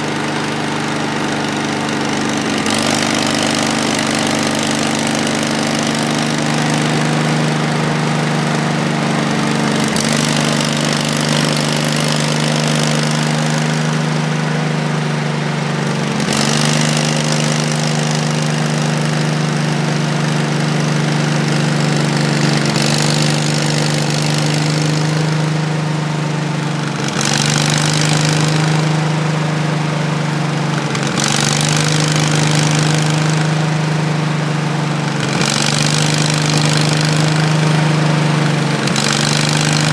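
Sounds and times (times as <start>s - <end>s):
gasoline engine running under load: 0.0s - 39.9s.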